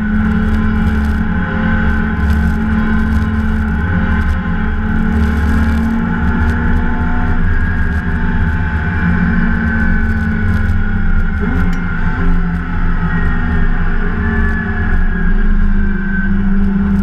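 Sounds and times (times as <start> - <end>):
race car engine under load: 0.0 - 17.0.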